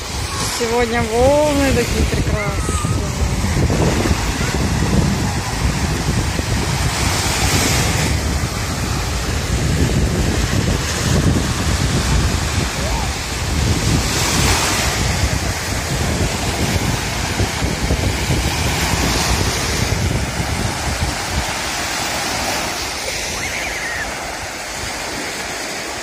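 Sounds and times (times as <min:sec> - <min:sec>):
small waves breaking on shore: 0:00.0 - 0:26.0
wind buffeting microphone: 0:00.0 - 0:26.0.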